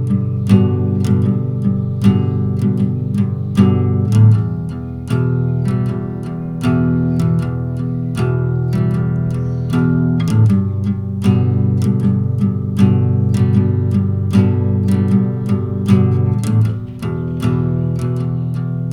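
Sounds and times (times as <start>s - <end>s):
plucked guitar chords: 0.0s - 18.9s.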